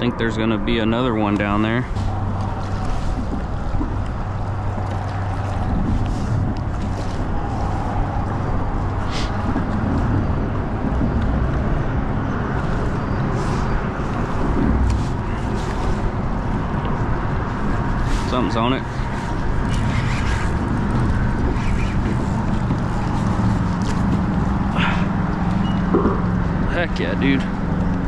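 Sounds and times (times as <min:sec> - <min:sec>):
choppy waves: 0:00.0 - 0:28.0
wind buffeting microphone: 0:00.0 - 0:28.0.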